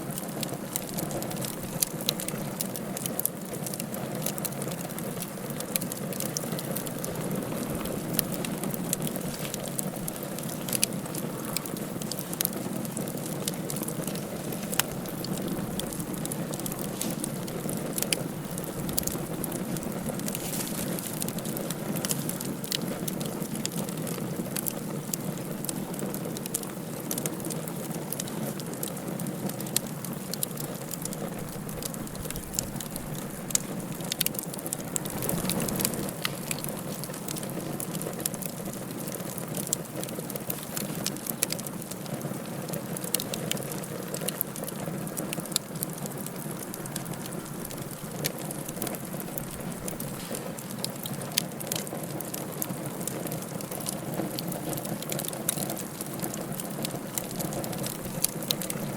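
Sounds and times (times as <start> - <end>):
low rushing of fire: 0.0 - 58.9
wood fire crackling and popping: 0.0 - 58.9.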